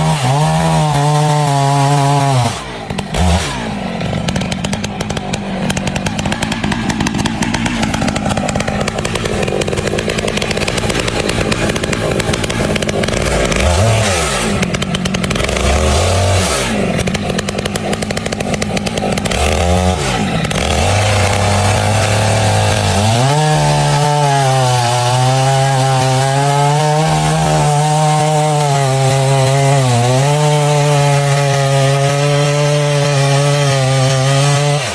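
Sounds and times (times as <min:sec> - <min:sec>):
chainsaw running: 0:00.0 - 0:34.9.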